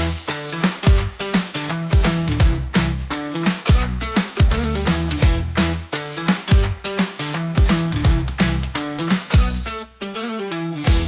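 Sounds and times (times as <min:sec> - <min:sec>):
driving drum beat: 0:00.0 - 0:09.6
rock music electric guitar: 0:00.0 - 0:11.0.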